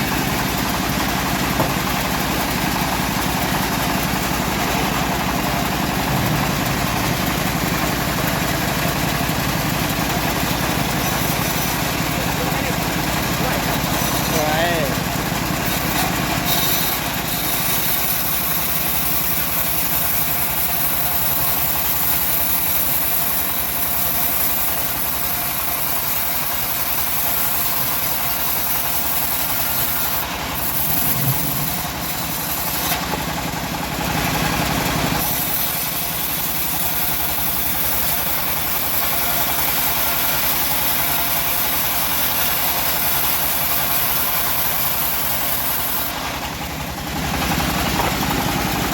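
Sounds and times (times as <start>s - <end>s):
bandsaw mill engine running: 0.0s - 48.9s.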